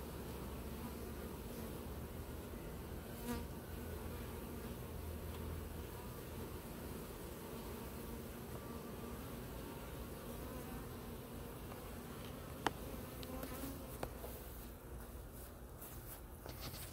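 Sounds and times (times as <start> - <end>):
honeybees buzzing: 0.0 - 16.9.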